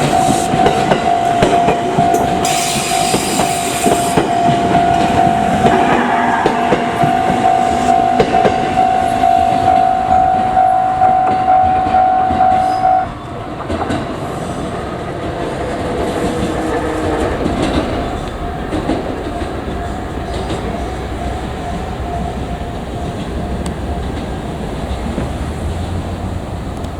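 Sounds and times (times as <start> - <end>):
level-crossing warning bell: 0.0 - 26.8
rumble of passing traffic: 0.0 - 26.9
train wheels clattering: 0.0 - 26.9.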